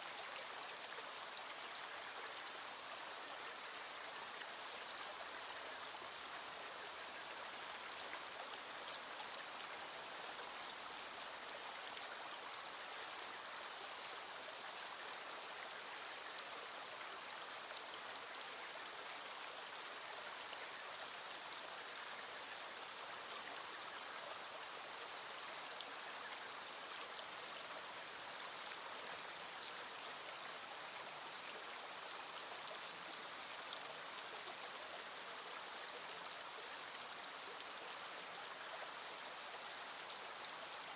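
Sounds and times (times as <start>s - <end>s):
stream running over stones: 0.0s - 40.9s.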